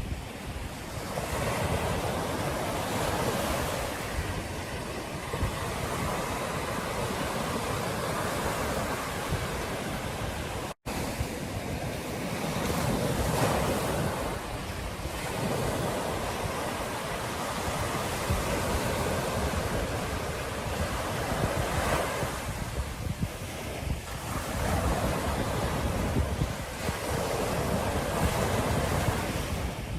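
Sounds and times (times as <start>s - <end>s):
ocean surf washing onto beach: 0.0s - 29.9s
wind buffeting microphone: 0.0s - 29.9s.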